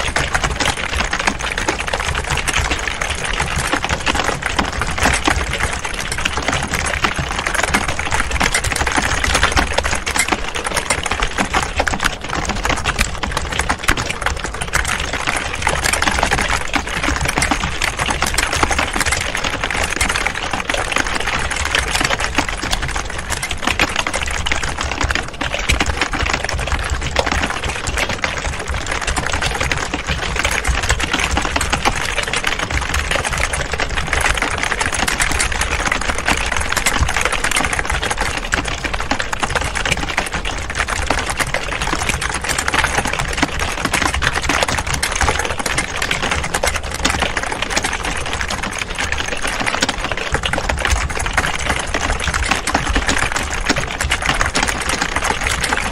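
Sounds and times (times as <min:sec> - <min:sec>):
many people typing on keyboards: 0:00.0 - 0:55.9.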